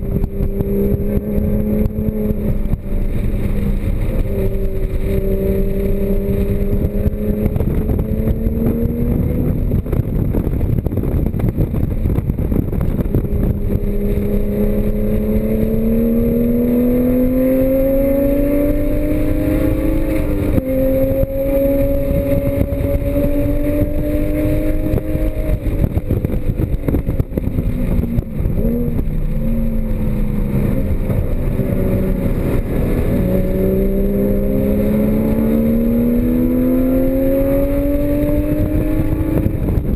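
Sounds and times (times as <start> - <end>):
car engine revving: 0.0 - 39.9
engine blips on downshifts: 0.0 - 39.9
road and wind noise: 0.0 - 39.9.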